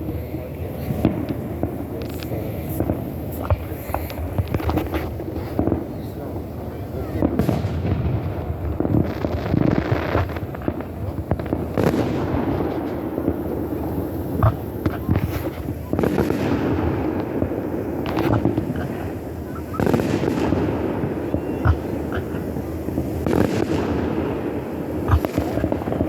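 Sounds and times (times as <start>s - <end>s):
fireworks booming bursts: 0.0s - 26.0s
fireworks crackling: 0.0s - 26.0s.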